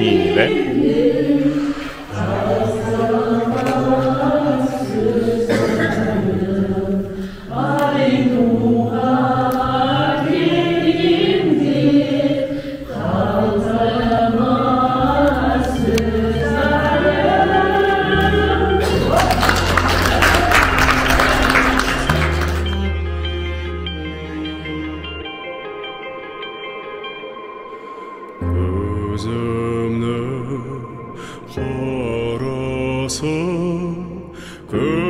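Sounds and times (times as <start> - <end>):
group of voices singing: 0.0 - 22.2, 28.3 - 35.0.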